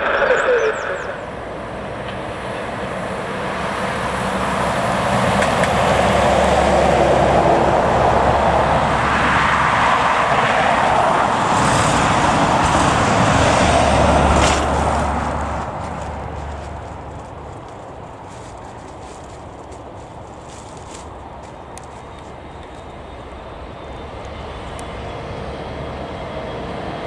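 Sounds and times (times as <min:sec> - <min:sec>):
jet engines passing: 0:00.0 - 0:27.0.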